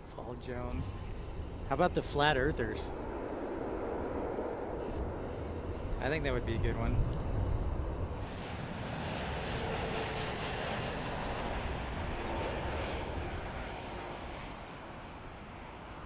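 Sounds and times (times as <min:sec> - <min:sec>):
distant jet engine rush: 0:00.0 - 0:16.0.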